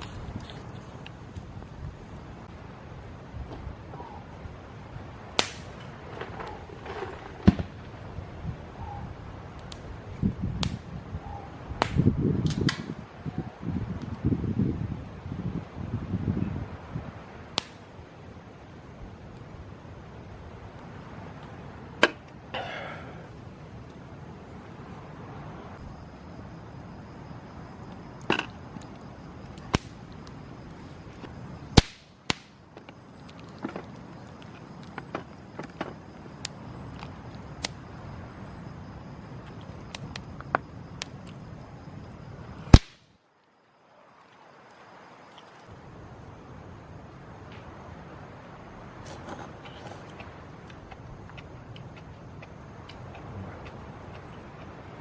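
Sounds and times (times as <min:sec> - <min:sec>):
campfire wood crackling: 0:00.0 - 0:55.0
low background hiss: 0:00.0 - 0:55.0.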